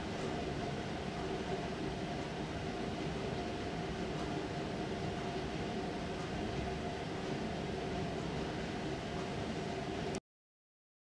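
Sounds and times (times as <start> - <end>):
faint hum: 0.0 - 10.2.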